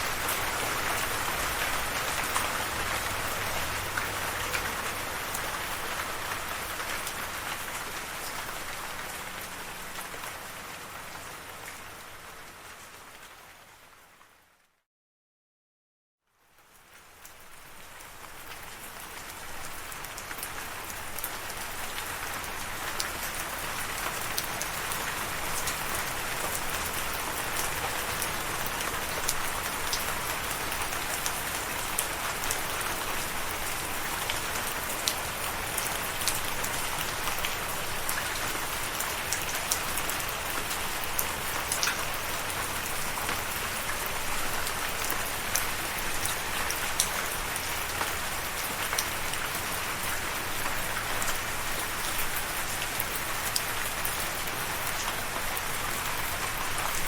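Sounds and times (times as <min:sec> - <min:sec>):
rain falling: 0:00.0 - 0:14.4, 0:16.3 - 0:57.0.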